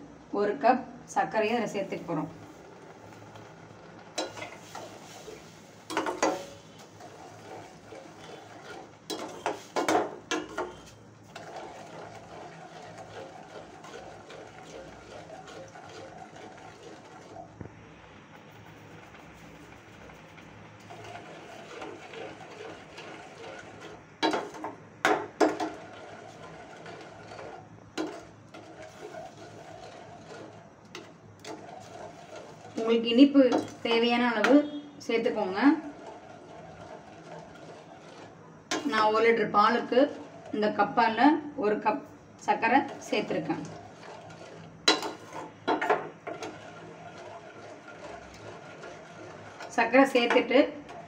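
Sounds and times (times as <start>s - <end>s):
metal ladle scraping steel pan: 3.3s - 17.4s, 18.6s - 40.6s, 42.8s - 51.0s.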